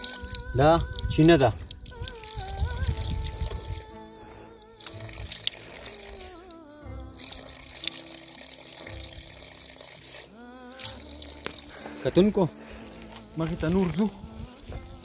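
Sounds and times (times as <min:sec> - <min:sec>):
water running over rocks: 0:00.0 - 0:04.0, 0:04.8 - 0:15.0
background music: 0:00.0 - 0:15.0.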